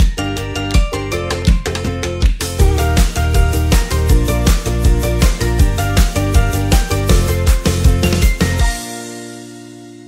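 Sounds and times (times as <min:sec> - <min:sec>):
upbeat music with beat and bass: 0:00.0 - 0:10.0.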